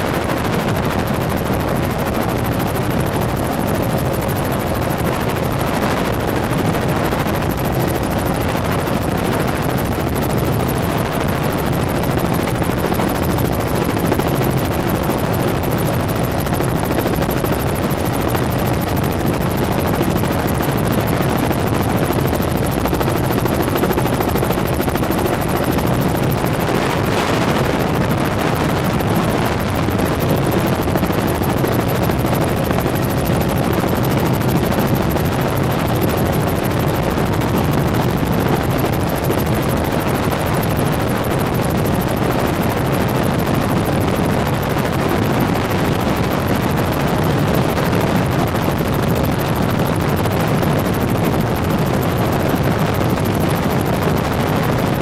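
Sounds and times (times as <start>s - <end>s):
helicopter rotor drone: 0.0s - 55.0s.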